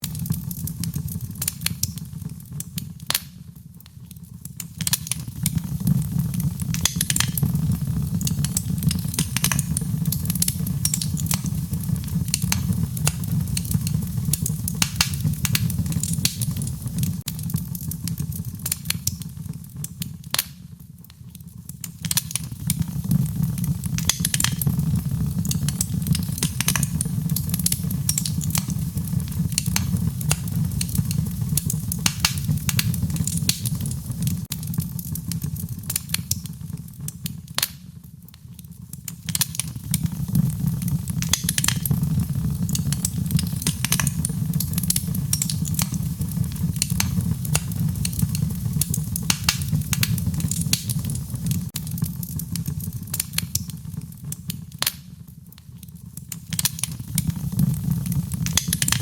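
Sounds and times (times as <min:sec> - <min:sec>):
low rumble of burning: 0:00.0 - 0:59.0
wood fire crackling and popping: 0:00.0 - 0:59.0.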